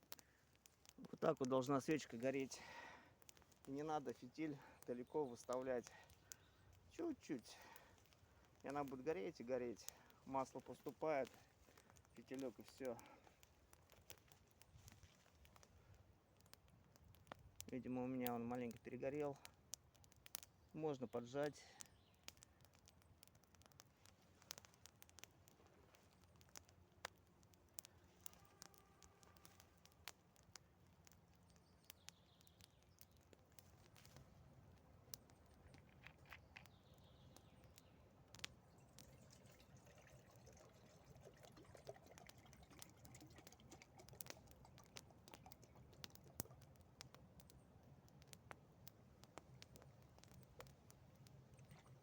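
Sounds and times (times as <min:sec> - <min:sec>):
faint campfire crackles: 0:00.0 - 0:52.0.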